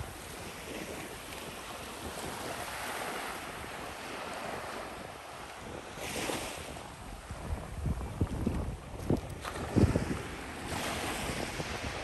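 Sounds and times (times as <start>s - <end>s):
small waves lapping on beach: 0.0s - 12.0s
wind buffeting microphone: 0.0s - 12.0s.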